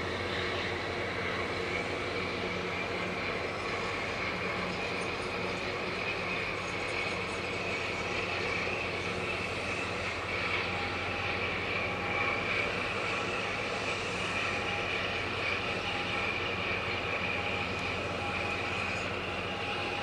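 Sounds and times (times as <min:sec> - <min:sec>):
ship machinery drone: 0:00.0 - 0:20.0.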